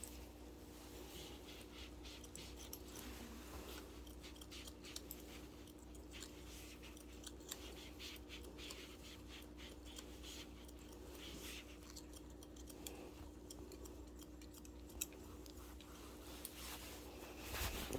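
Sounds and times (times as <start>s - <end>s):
steady low hum: 0.0s - 17.9s
scissors snipping hair: 1.5s - 16.6s.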